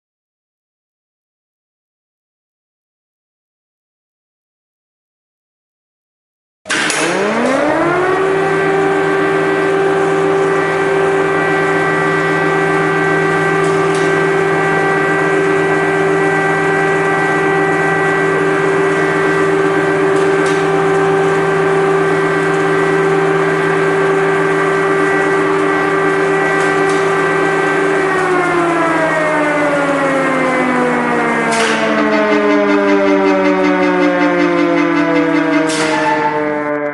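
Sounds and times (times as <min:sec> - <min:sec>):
air-raid siren: 0:06.7 - 0:36.9.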